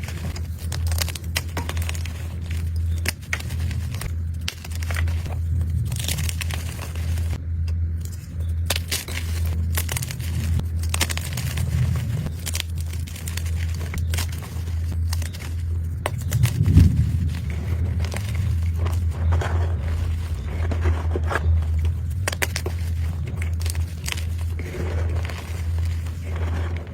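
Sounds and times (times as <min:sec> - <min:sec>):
chalk being crushed: 0:00.0 - 0:07.4, 0:08.0 - 0:26.9
steady low hum: 0:00.0 - 0:26.9.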